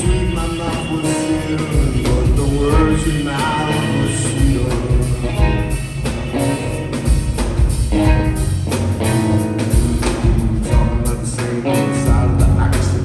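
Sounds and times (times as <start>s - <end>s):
bass guitar: 0.0s - 13.0s
drum beat: 0.0s - 13.0s
electric guitar: 0.0s - 13.0s.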